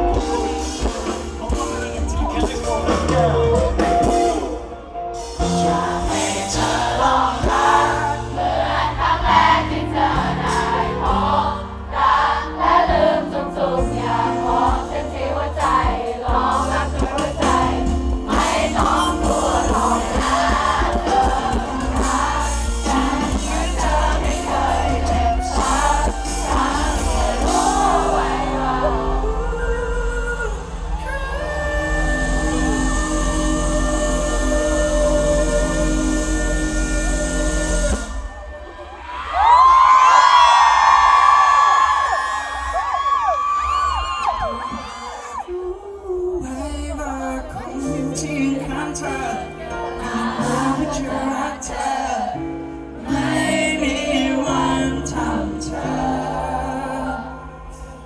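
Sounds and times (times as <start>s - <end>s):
crowd singing along: 0.0s - 39.2s, 46.4s - 58.0s
live band playing pop song: 0.0s - 41.4s, 42.0s - 58.0s.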